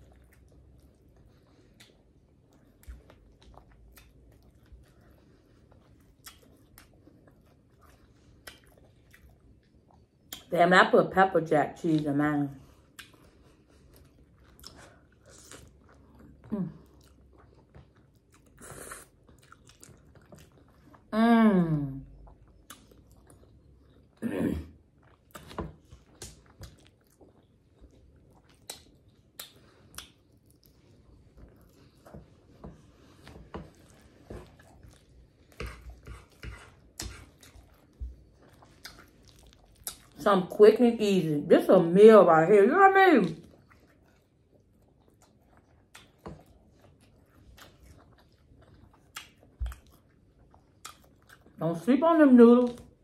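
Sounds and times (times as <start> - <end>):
chewing and smacking: 0.0 - 10.5, 11.8 - 21.1, 22.0 - 24.2, 24.8 - 40.6, 43.2 - 53.0.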